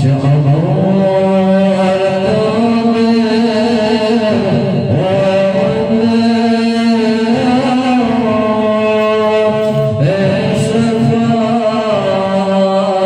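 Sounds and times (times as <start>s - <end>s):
person chanting: 0.0s - 13.0s.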